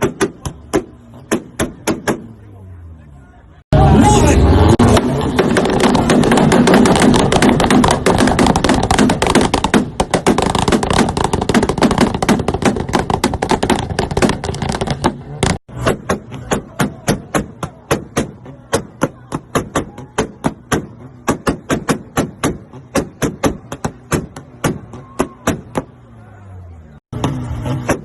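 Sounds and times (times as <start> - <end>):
exhaust popping and banging: 0.0 - 2.4, 4.6 - 26.0, 27.1 - 28.0.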